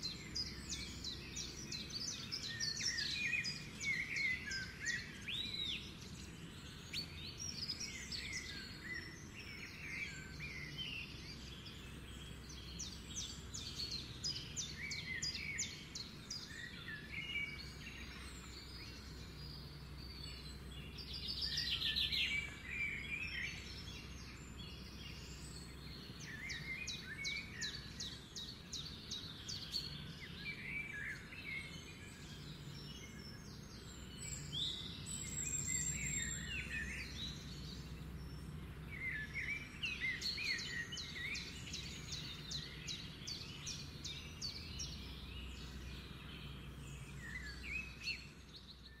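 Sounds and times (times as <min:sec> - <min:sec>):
songbirds chirping and singing: 0:00.0 - 0:49.0.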